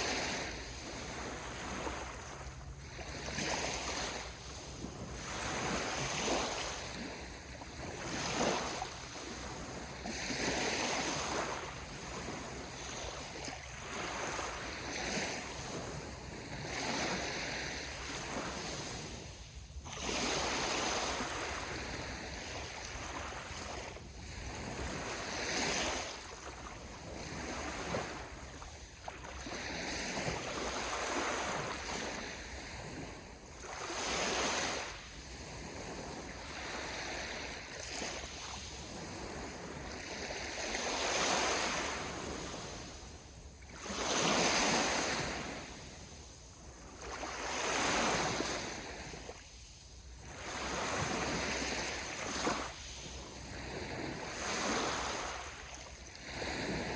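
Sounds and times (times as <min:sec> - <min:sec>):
sea waves washing in: 0:00.0 - 0:56.9.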